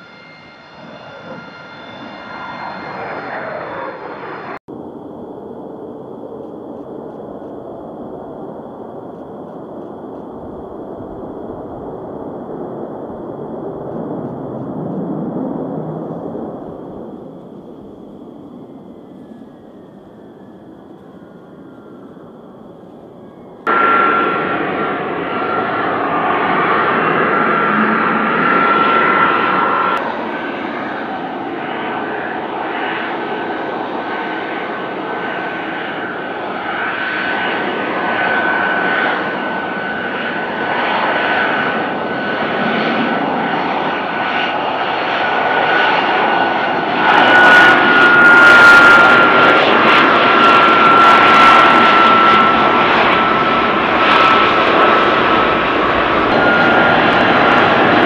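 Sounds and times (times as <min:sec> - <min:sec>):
jet engine high-pitched whine: 0:00.0 - 0:58.0
jet noise: 0:00.0 - 0:58.0.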